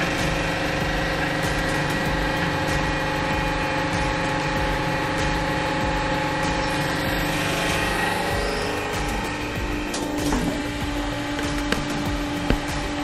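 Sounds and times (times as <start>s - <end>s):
hydraulic pump motor humming: 0.0s - 13.0s.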